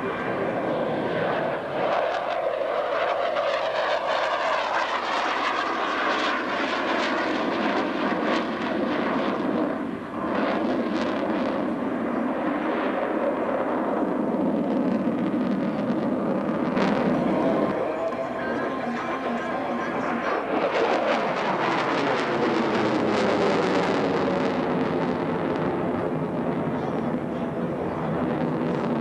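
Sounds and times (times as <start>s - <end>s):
jet engine roar overhead: 0.0s - 29.0s.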